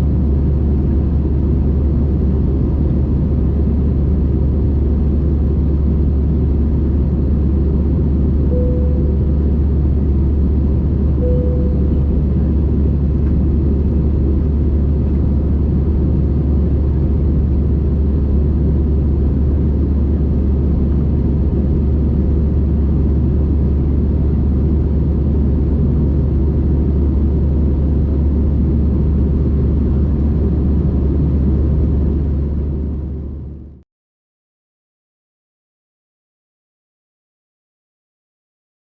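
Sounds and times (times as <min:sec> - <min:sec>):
jet engine cabin noise: 0:00.0 - 0:33.8.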